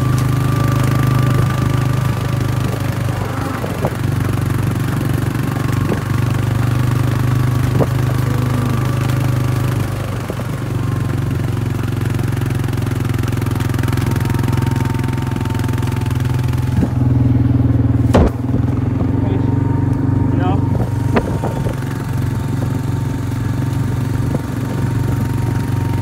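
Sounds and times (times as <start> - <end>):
vehicle engine running low revs: 0.0 - 26.0.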